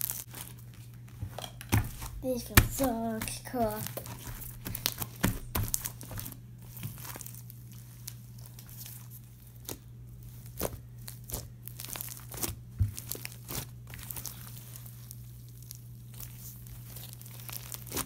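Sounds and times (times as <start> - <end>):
crunchy slime crackling: 0.0 - 18.0.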